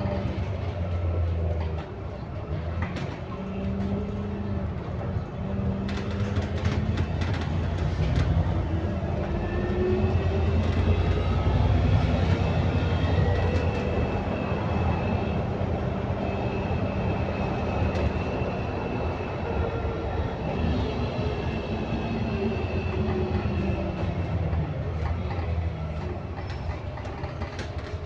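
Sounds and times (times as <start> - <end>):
bus engine drone with groaning: 0.0 - 28.0.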